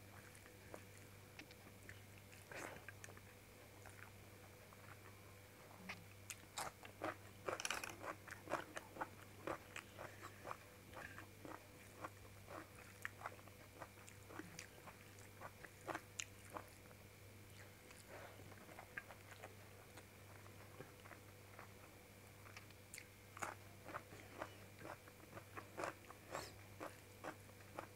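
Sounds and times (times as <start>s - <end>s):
chewing and crunching: 0.1s - 5.2s, 5.9s - 27.9s.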